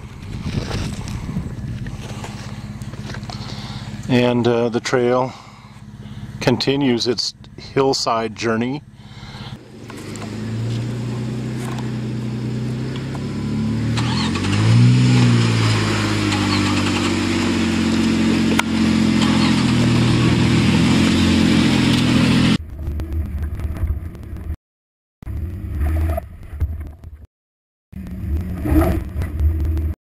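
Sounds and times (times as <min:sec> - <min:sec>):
car engine crawling and revving: 0:00.0 - 0:06.8, 0:08.8 - 0:24.6, 0:25.2 - 0:27.3, 0:28.0 - 0:30.0.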